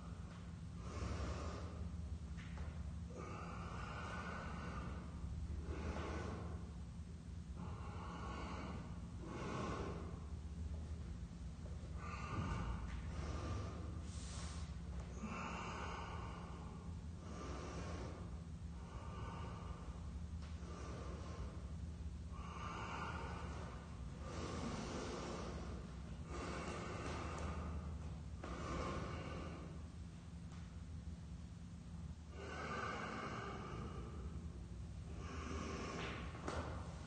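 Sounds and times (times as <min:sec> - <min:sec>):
man breathing deeply: 0:00.0 - 0:37.0.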